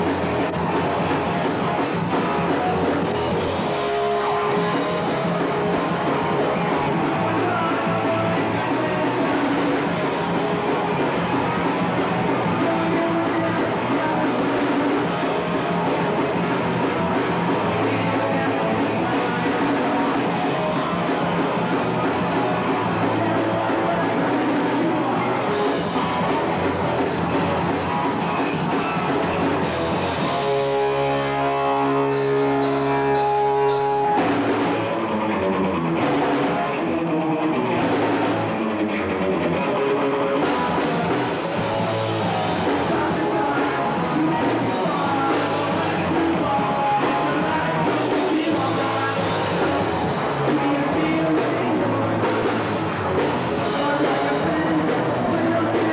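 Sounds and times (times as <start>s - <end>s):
bass guitar: 0.0s - 55.9s
distorted electric guitars: 0.0s - 55.9s
drums: 0.0s - 55.9s.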